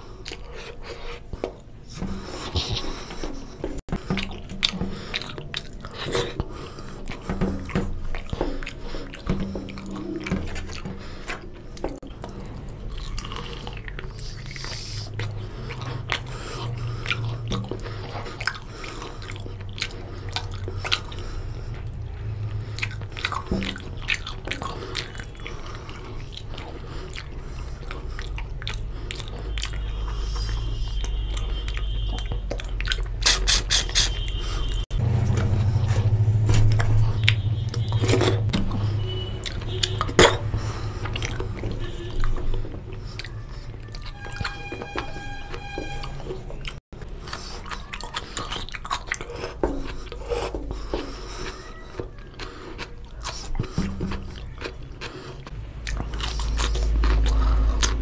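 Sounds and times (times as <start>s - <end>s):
close chewing and biting: 0.0s - 58.0s.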